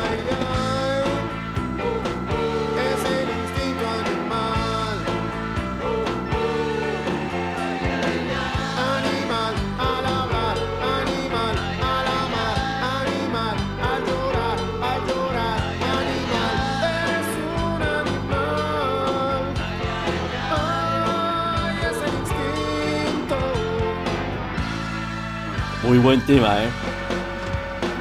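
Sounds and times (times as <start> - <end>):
rock band playing: 0.0 - 28.0.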